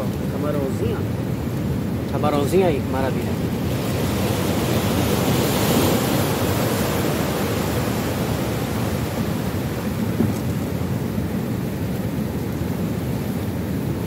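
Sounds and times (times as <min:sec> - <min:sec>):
sea surf: 0:00.0 - 0:14.0.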